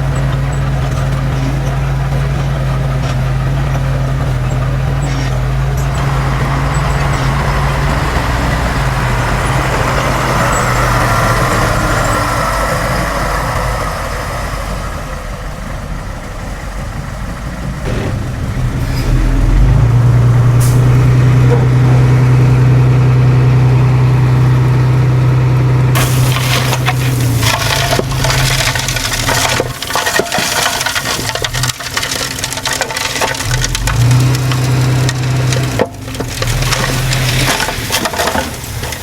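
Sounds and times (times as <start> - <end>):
heavy diesel engine droning: 0.0 - 39.0
soil and debris crunching: 0.0 - 39.0.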